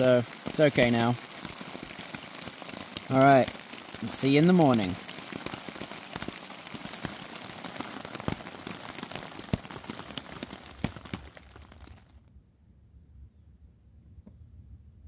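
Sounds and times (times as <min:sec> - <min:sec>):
rain pattering on tarp: 0:00.0 - 0:12.2.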